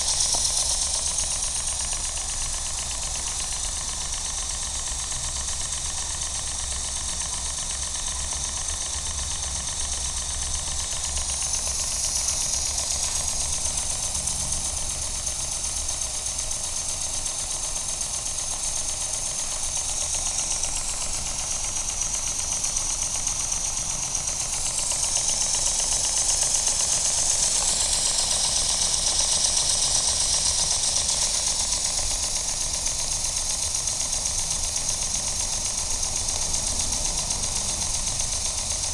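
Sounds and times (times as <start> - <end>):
steam hiss: 0.0 - 5.0, 9.6 - 38.9
steam engine clatter and chuffing: 0.0 - 38.9.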